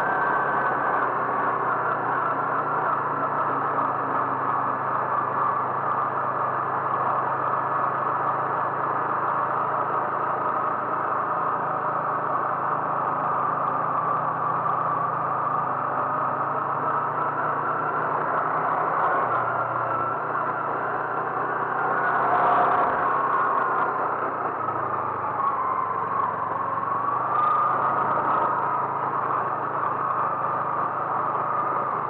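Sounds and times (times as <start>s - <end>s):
road noise: 0.0s - 32.0s
car engine humming: 5.1s - 32.0s.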